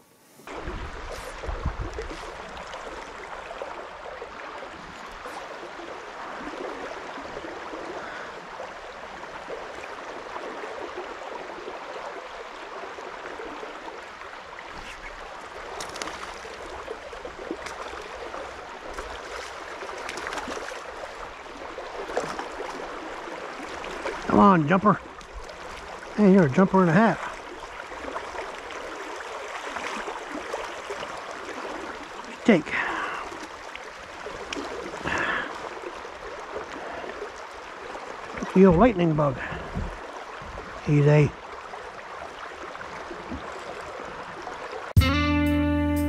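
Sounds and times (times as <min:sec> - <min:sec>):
creek water babbling: 0:00.4 - 0:45.0.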